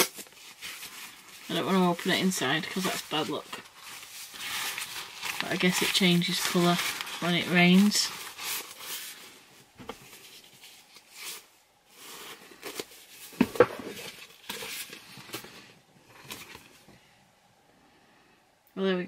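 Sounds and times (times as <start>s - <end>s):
umbrella and plastic wrapping rustling: 0.0s - 16.9s.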